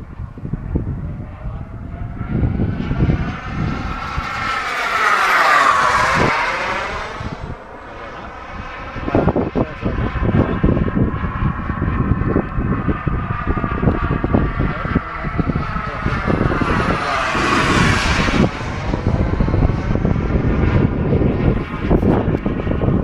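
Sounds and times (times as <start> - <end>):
gusty rumbling: 0.0 - 23.0
model jet whine flying past: 0.0 - 23.0.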